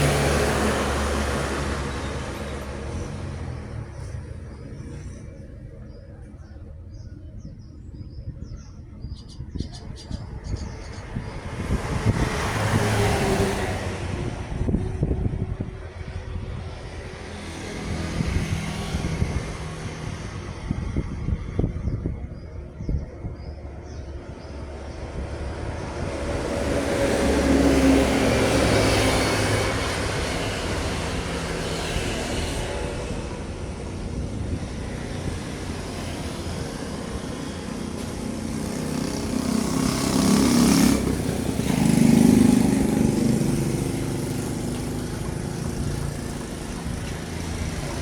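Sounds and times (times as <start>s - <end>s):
heavy truck passing: 0.0s - 5.7s, 11.3s - 21.7s, 23.8s - 48.0s
birds chirping: 0.0s - 13.1s, 20.2s - 48.0s.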